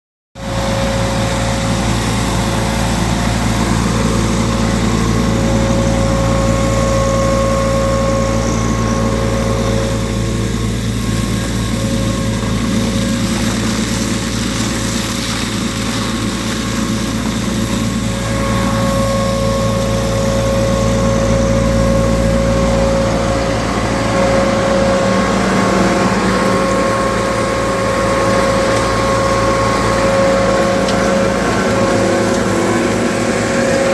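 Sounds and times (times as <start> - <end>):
machine high whine: 0.4 - 33.9
tractor engine hum: 0.4 - 33.9.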